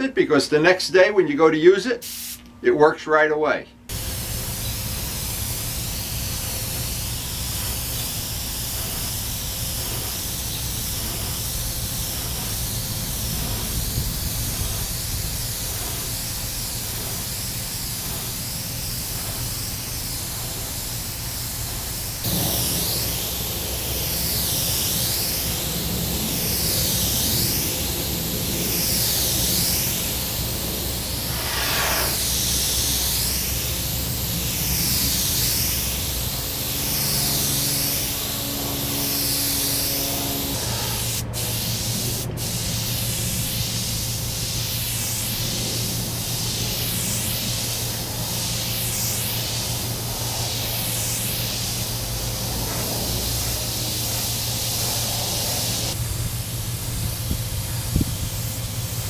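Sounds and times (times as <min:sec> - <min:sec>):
airbrush spraying air hiss: 0:02.0 - 0:02.5, 0:03.9 - 0:59.0.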